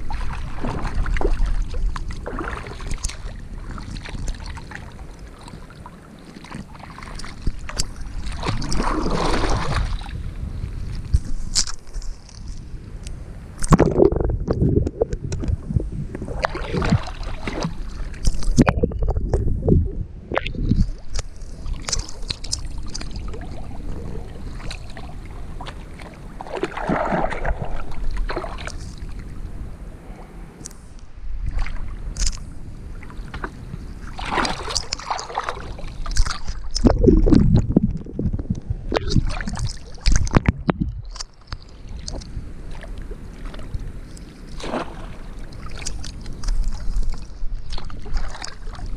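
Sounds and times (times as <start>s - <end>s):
water splashing and sloshing: 0.0s - 48.9s.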